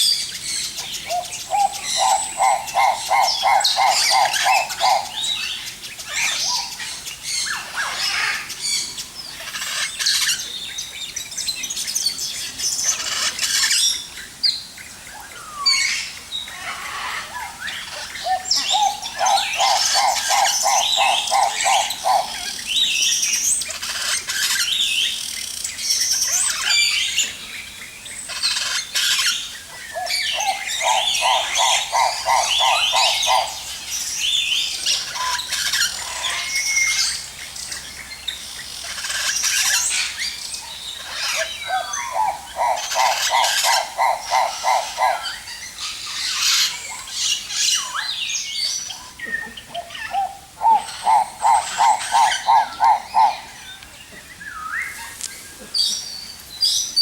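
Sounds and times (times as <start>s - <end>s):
birds chirping and calling: 0.0s - 57.0s
low bird call of evenly spaced notes: 0.0s - 57.0s.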